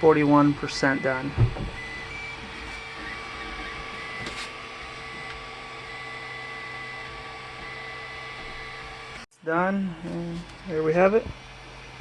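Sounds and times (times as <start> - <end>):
printer motors whining: 0.0 - 12.0.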